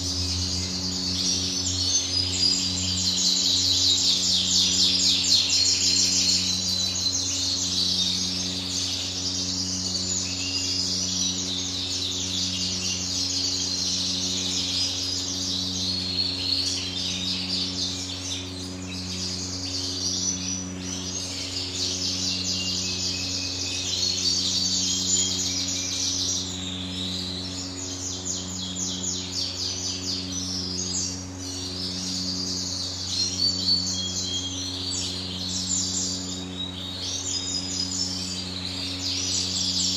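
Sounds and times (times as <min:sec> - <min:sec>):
low pulsing mechanical hum: 0:00.0 - 0:39.9.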